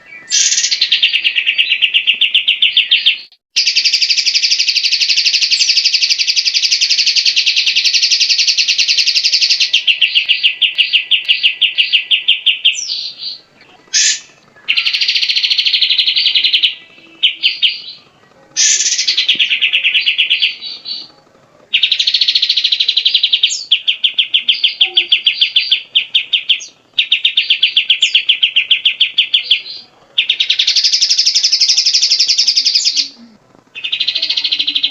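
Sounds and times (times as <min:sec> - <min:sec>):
bulbul singing rapid trills: 0:00.0 - 0:34.9.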